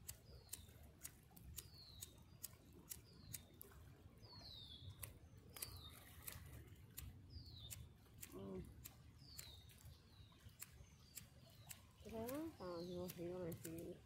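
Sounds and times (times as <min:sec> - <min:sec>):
faint clicks: 0:00.0 - 0:03.8, 0:04.4 - 0:14.0.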